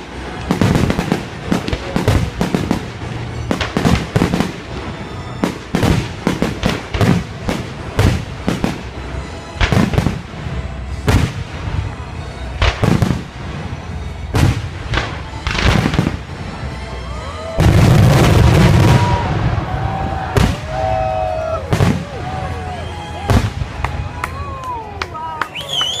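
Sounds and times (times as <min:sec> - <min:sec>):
fireworks bangs: 0:00.0 - 0:26.0
fireworks crackle: 0:00.0 - 0:26.0
fireworks whistling: 0:00.0 - 0:26.0.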